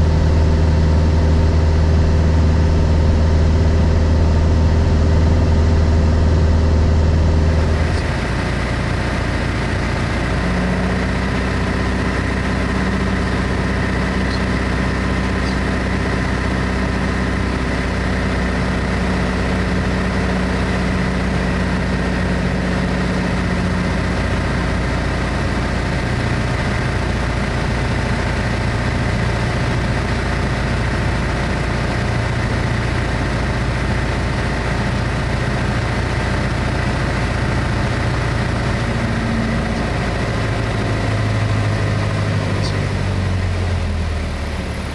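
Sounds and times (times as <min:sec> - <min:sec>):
airplane engine droning in cabin: 0:00.0 - 0:44.9.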